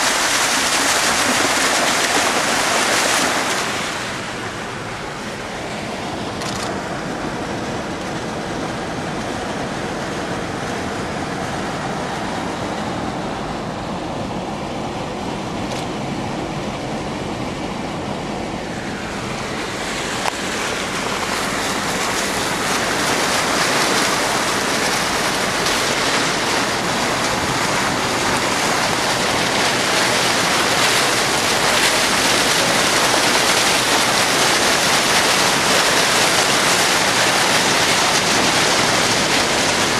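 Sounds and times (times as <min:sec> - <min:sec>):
water churning and splashing: 0:00.0 - 0:39.9.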